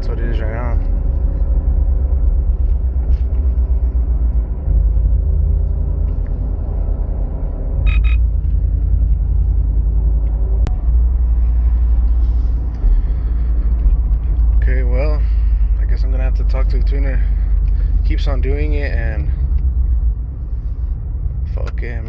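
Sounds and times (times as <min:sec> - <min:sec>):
truck engine rumbling in cab: 0:00.0 - 0:22.0.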